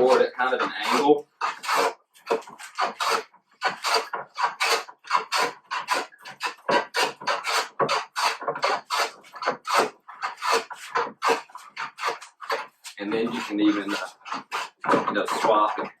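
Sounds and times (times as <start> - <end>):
hand plane rasping across wood: 0.0 - 16.0.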